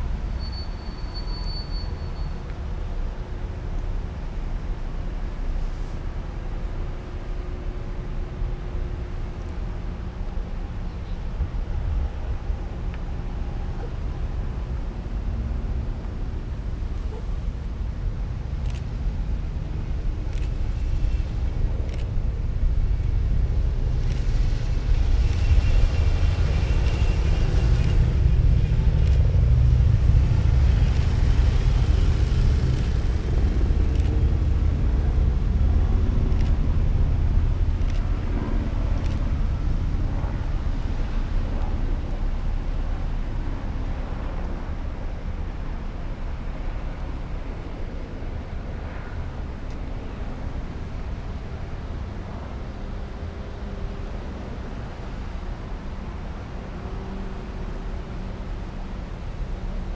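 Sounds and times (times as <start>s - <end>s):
engine and tyre noise: 0.0s - 59.9s
police cars driving past: 0.0s - 59.9s.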